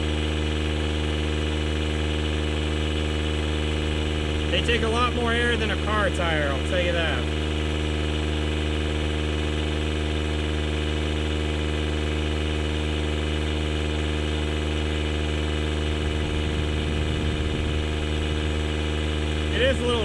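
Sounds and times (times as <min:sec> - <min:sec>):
tire inflator compressor humming: 0:00.0 - 0:20.0.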